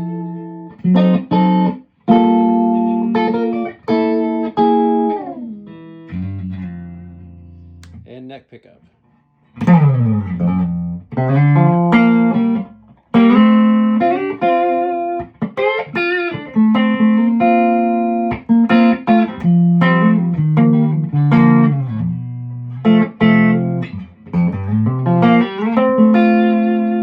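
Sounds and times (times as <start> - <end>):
electric guitar notes and chords: 0.0 - 8.0, 9.5 - 27.0.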